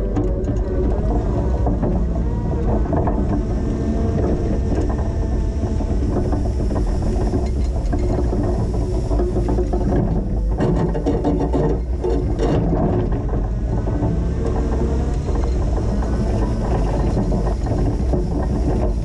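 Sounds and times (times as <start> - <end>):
forklift engine running: 0.0 - 19.0.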